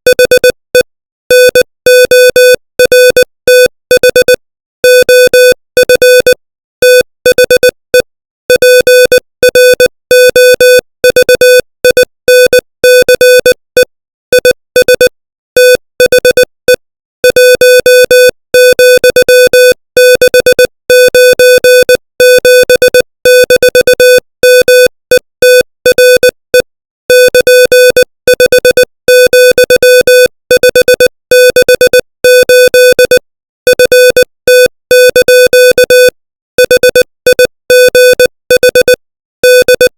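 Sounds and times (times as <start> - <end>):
morse code tone: 1.3 - 39.9.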